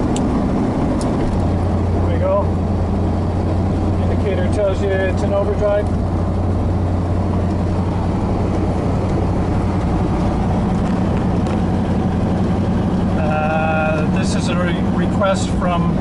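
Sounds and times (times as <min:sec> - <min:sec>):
pickup engine droning: 0:00.0 - 0:16.0
road noise: 0:00.0 - 0:16.0.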